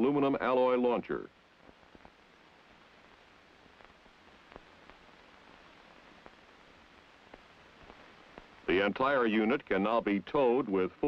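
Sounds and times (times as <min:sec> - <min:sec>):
film soundtrack hiss: 0:00.0 - 0:11.0.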